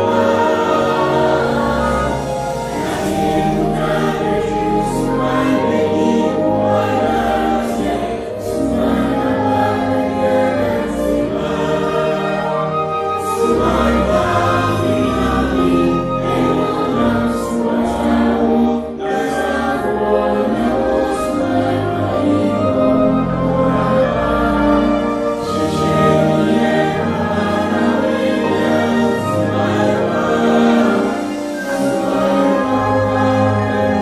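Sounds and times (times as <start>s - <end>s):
children's choir singing: 0.0s - 34.0s
low musical backing: 0.0s - 34.0s.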